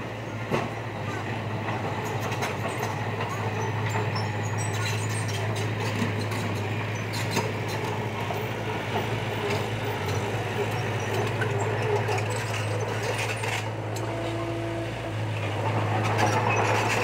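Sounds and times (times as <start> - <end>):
heavy machine engine humming: 0.0 - 17.0.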